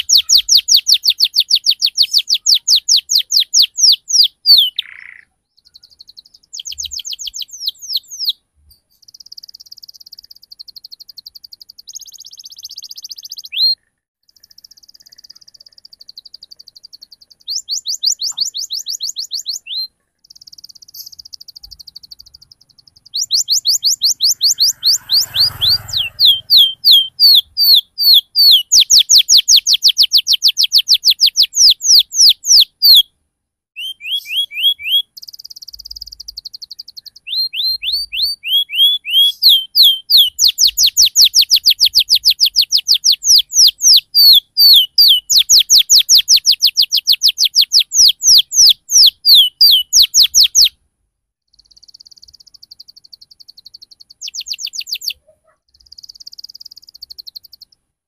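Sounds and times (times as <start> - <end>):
canary singing: 0.0 - 33.2, 33.8 - 50.8, 51.5 - 57.9.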